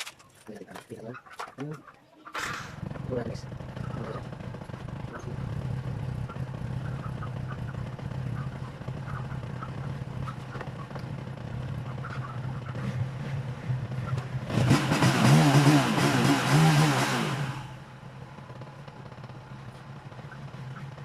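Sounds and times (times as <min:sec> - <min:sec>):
motorcycle engine running: 0:02.7 - 0:21.0.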